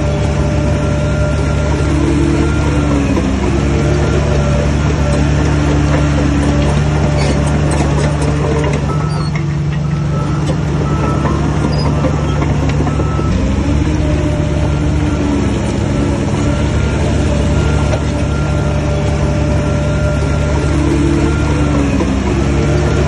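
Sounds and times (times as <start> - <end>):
heavy diesel engine under load: 0.0 - 23.0.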